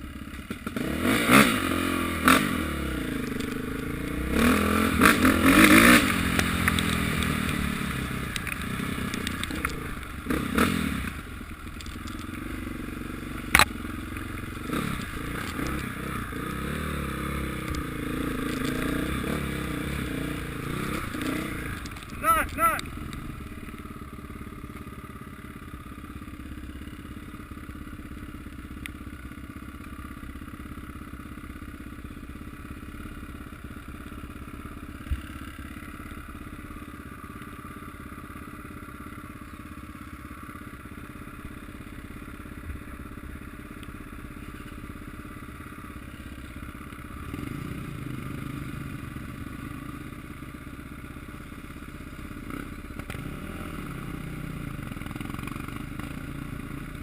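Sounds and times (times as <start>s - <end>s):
distant motorcycle engines droning: 0.0s - 57.0s.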